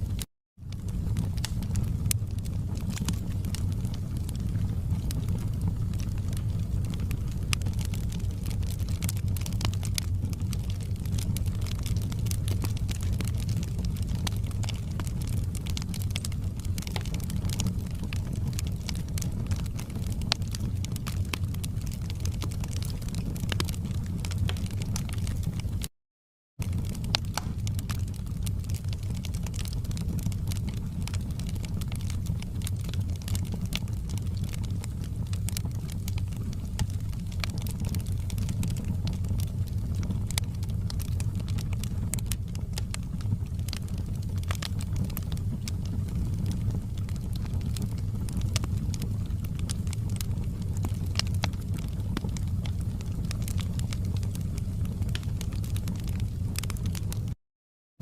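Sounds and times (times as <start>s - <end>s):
wood fire crackling and popping: 0.0s - 25.9s, 26.6s - 57.4s.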